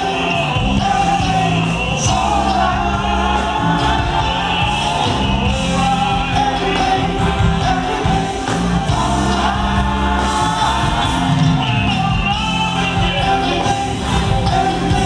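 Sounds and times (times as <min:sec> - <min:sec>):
bass guitar: 0:00.0 - 0:15.0
drums: 0:00.0 - 0:15.0
keyboards: 0:00.0 - 0:15.0
vocal group singing: 0:00.0 - 0:15.0.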